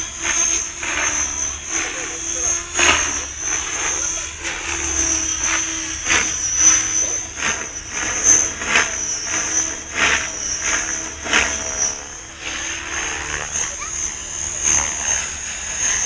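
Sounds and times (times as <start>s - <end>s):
model helicopter whine: 0.0s - 16.0s
rotor blades swishing: 0.0s - 16.0s.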